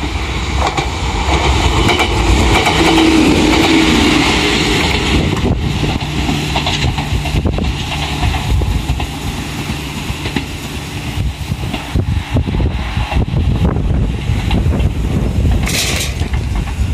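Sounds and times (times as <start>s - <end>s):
electric train passing on rails: 0.0s - 16.9s
wind buffeting microphone: 0.0s - 16.9s.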